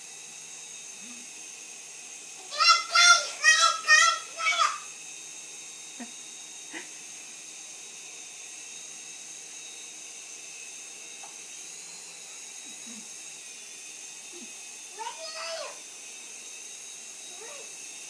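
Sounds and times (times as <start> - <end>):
toy helicopter motor whining: 0.0 - 18.0.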